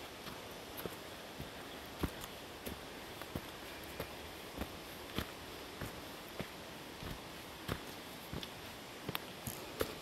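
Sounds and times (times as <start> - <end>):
background hiss: 0.0 - 10.0
footsteps on a trail: 0.0 - 10.0.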